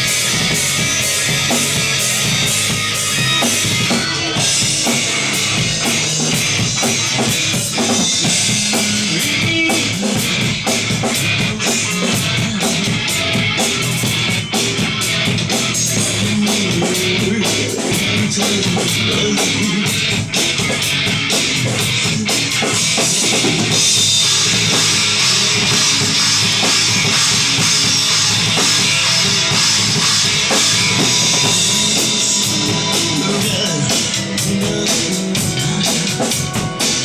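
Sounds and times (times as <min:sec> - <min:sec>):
drumming with cymbal hits: 0:00.0 - 0:37.0
rock music: 0:00.0 - 0:37.0.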